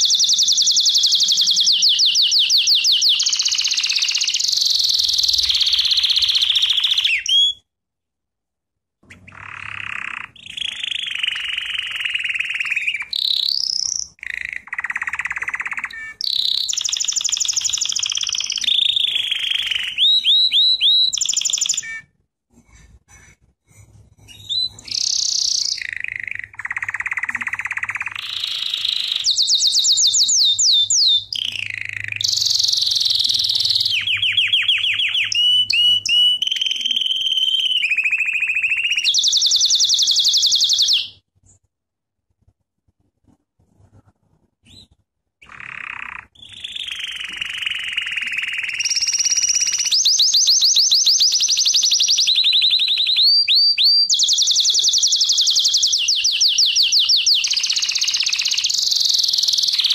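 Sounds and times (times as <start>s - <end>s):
canary singing trills: 0.0s - 7.6s, 9.0s - 22.2s, 23.0s - 41.2s, 44.6s - 59.9s.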